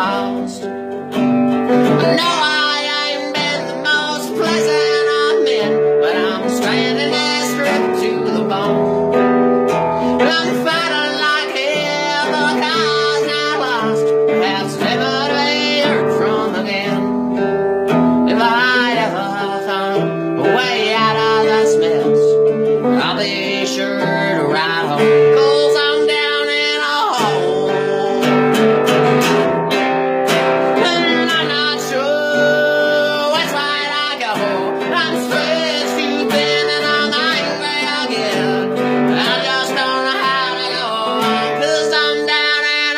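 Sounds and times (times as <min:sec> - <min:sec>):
acoustic guitar: 0:00.0 - 0:42.9
person singing: 0:00.0 - 0:42.9.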